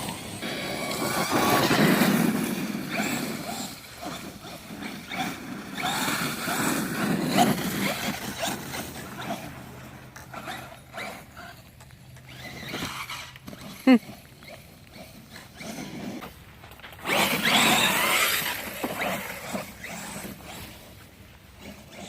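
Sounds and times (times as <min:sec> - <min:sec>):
rc truck motor whining: 0:00.0 - 0:22.0
tyre noise: 0:00.0 - 0:22.0.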